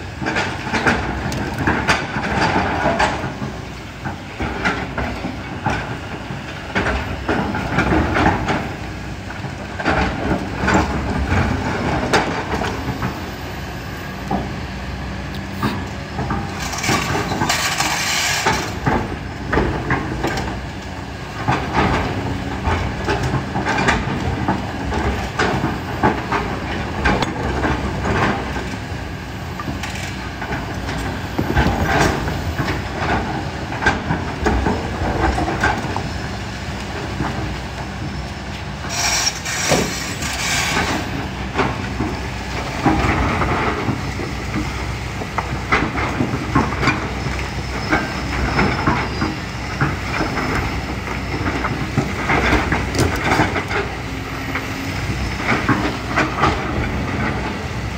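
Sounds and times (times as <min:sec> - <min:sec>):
excavator diesel engine under load: 0:00.0 - 0:57.9.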